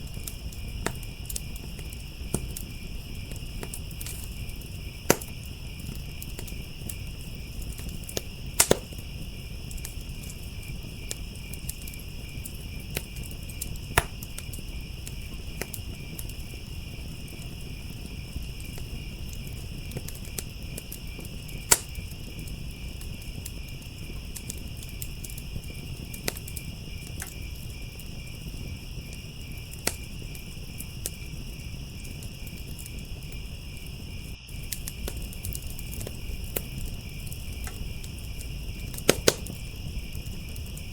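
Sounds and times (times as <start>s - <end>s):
crickets chirping: 0.0s - 40.9s
sharp pops from fire: 0.0s - 40.9s
wood fire crackling: 0.0s - 40.9s.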